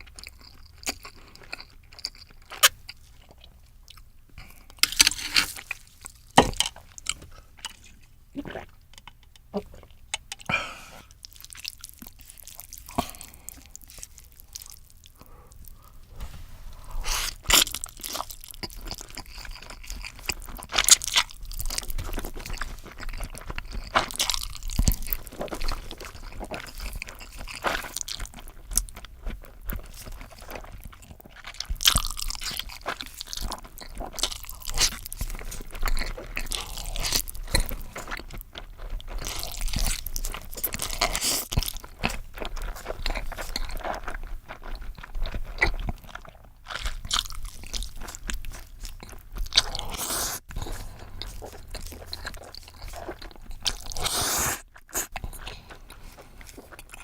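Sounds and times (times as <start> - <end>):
person crunching and chewing food: 0.0 - 57.0.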